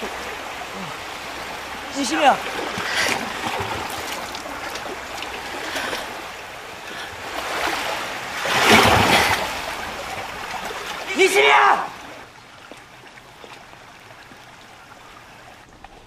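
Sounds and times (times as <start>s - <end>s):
flowing river water: 0.0s - 16.0s
people wading and splashing: 0.0s - 16.0s.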